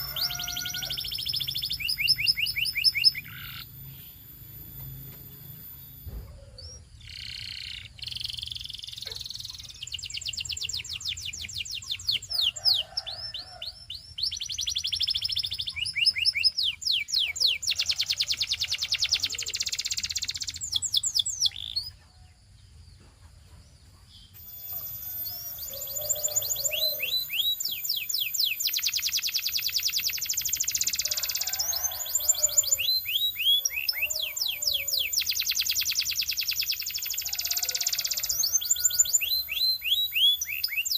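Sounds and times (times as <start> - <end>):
canary singing trills: 0.0 - 22.4, 23.6 - 40.9.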